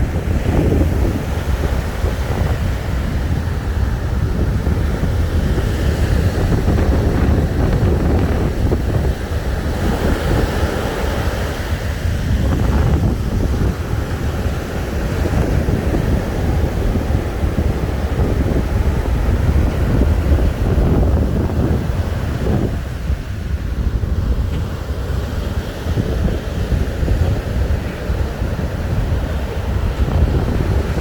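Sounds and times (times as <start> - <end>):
surf washing onto beach: 0.0 - 31.0
wind buffeting microphone: 0.0 - 31.0.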